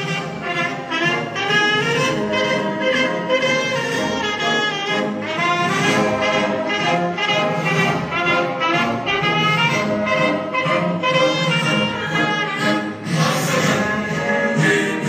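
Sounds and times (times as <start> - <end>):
orchestral music led by brass: 0.0 - 15.0.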